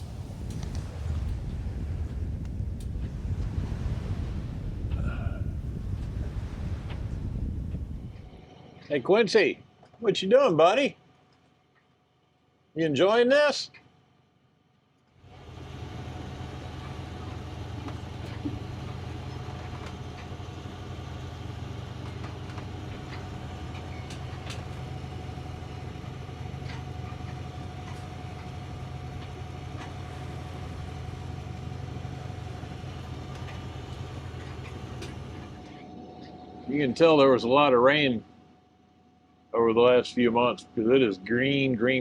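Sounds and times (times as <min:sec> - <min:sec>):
boat engine drone: 0:00.0 - 0:42.0.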